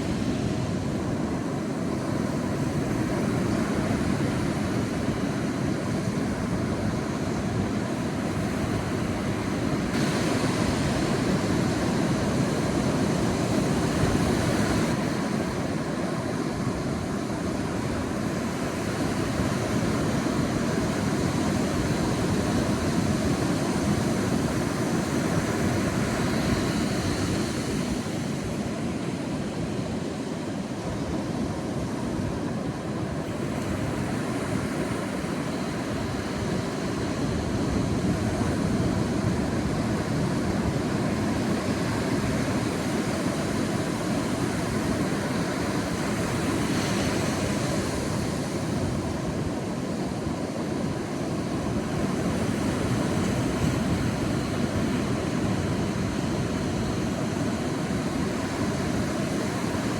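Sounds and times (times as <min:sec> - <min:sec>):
sea surf washing onto beach: 0:00.0 - 0:59.9.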